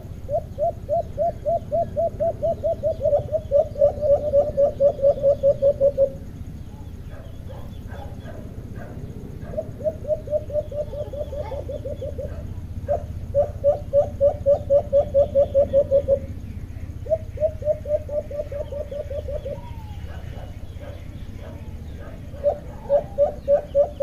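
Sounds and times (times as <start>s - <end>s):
dove rapid cooing: 0.0s - 24.0s
faint bird chirps: 0.0s - 24.0s.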